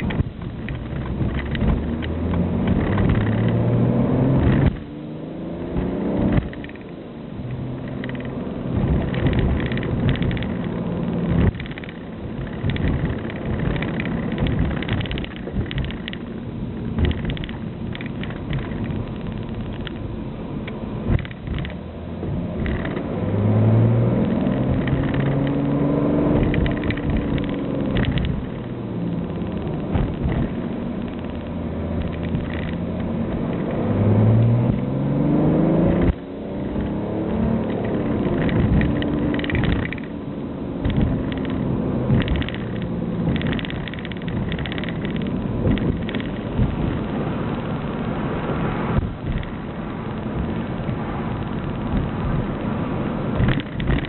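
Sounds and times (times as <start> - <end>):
diesel car engine driving: 0.0 - 54.0.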